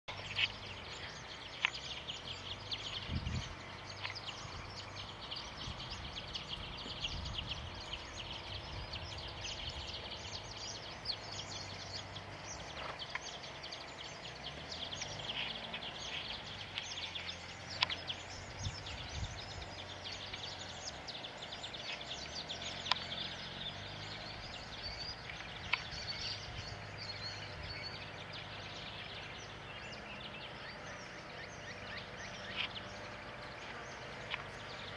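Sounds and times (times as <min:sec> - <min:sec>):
birds chirping and twittering: 0:00.0 - 0:34.9.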